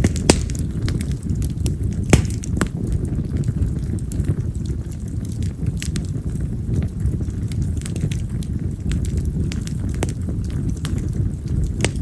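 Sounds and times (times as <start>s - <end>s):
firewood burning and crackling: 0.0s - 12.0s
steady low rumble: 0.0s - 12.0s.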